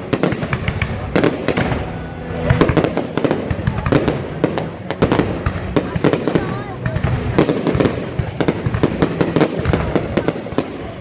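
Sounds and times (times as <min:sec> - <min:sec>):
fireworks bangs and crackles: 0:00.0 - 0:11.0
rumble of firework bursts: 0:00.0 - 0:11.0.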